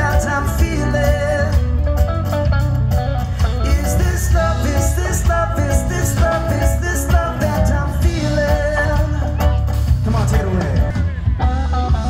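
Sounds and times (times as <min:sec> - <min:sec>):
person singing: 0:00.0 - 0:02.1, 0:03.2 - 0:12.0
live band playing: 0:00.0 - 0:12.0.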